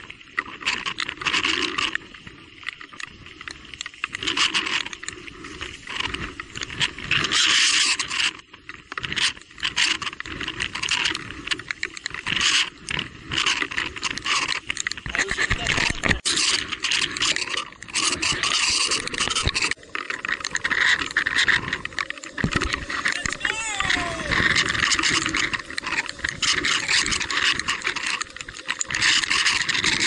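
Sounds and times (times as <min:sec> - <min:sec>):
tyre noise on wet trail: 0:00.0 - 0:30.0
bike clicks: 0:02.7 - 0:30.0
bike rattling: 0:03.8 - 0:30.0.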